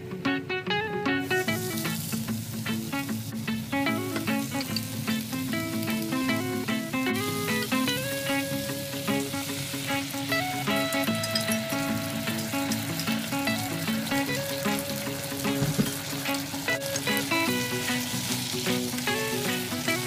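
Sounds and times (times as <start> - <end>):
light background music: 0.1 - 20.0
food sizzling in a pan: 1.2 - 20.0.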